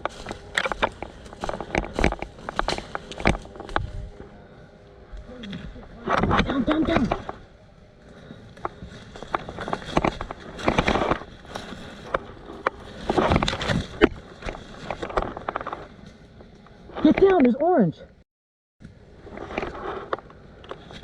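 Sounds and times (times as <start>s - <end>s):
clothing and gear rustling: 0.0s - 17.2s.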